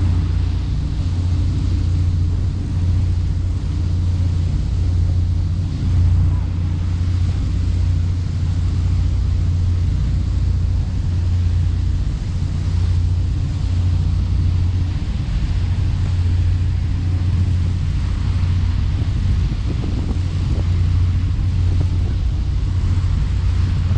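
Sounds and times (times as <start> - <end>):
boat engine droning: 0.0 - 23.9
wind and water rushing: 0.0 - 23.9.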